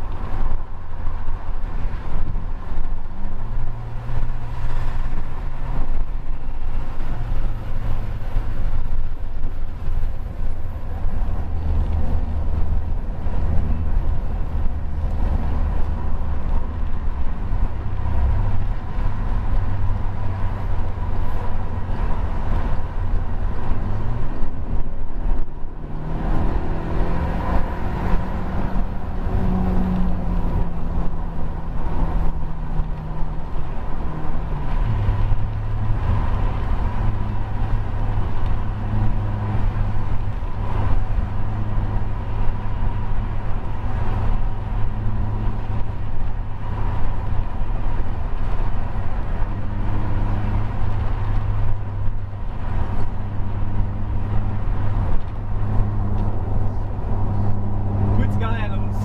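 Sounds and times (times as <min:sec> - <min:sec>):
car engine from inside cabin: 0:00.0 - 0:59.0
road and tyre noise: 0:00.0 - 0:59.0.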